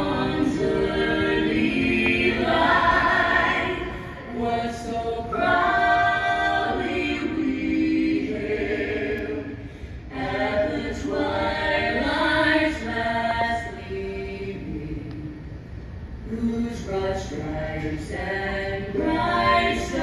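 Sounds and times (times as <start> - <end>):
voices singing in harmony: 0.0 - 15.6, 16.2 - 20.0.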